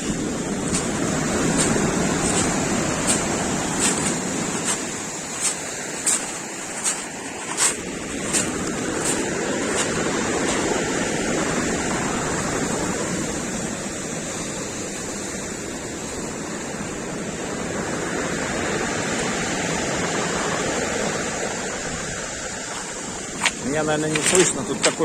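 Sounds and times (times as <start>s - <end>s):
storm waves breaking on shore: 0.0s - 25.0s.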